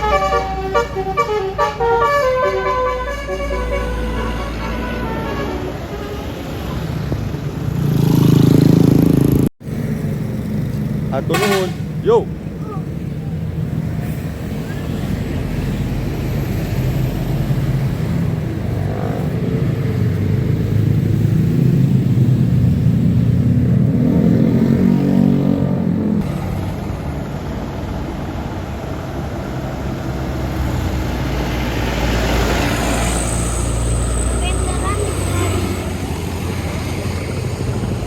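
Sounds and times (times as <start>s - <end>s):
bus engine rumble: 0.0s - 7.9s, 8.8s - 24.7s, 25.5s - 38.0s.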